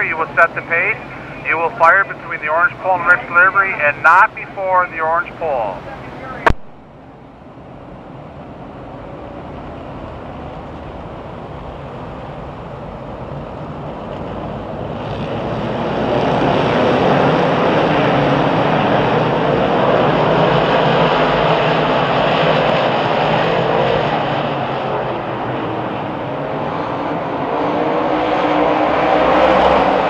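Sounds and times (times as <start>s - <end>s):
race car engines at full throttle: 0.0s - 6.6s, 7.6s - 30.0s.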